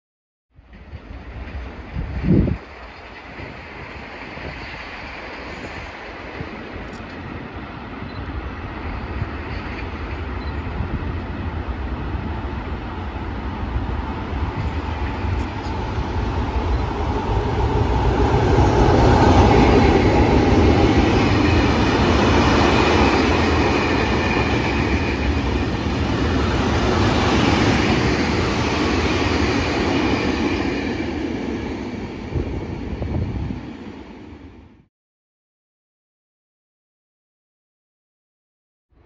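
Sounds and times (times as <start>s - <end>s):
freight train wheels rumbling: 0.6s - 34.6s.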